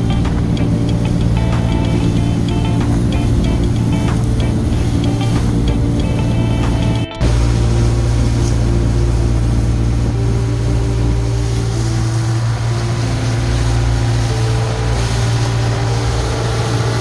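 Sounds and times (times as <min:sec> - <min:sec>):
boat engine running: 0:00.0 - 0:17.0
faint slow melody: 0:00.0 - 0:17.0
water rushing: 0:00.0 - 0:17.0
wind: 0:00.0 - 0:17.0.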